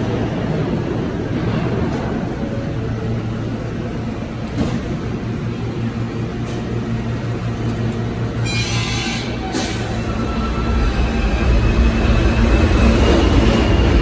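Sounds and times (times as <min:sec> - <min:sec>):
subway train humming: 0:00.0 - 0:14.0.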